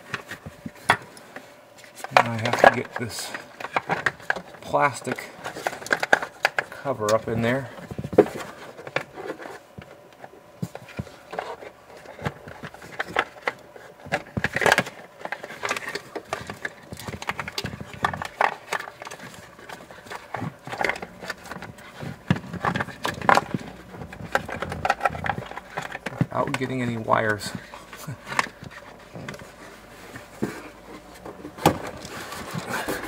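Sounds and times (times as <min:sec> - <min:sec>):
plastic clicks and scraping: 0:01.8 - 0:33.0.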